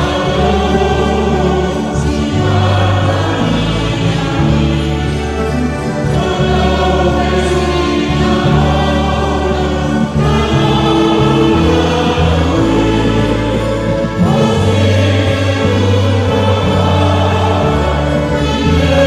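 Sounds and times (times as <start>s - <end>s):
electric keyboard: 0.0s - 19.0s
group singing a hymn: 0.0s - 19.0s.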